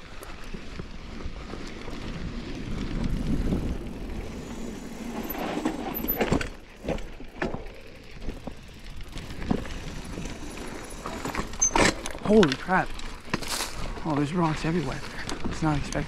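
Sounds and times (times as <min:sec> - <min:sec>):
bike knocking and rattling: 0:00.0 - 0:16.0
bike tyres crunching on gravel: 0:00.0 - 0:16.0.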